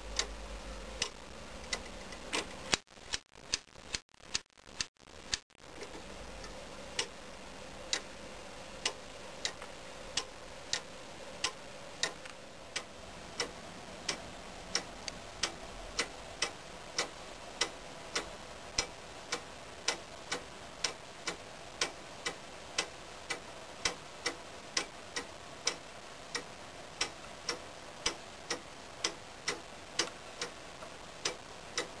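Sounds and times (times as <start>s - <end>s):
clock ticking: 0.0s - 7.2s, 7.8s - 8.2s, 8.8s - 32.0s.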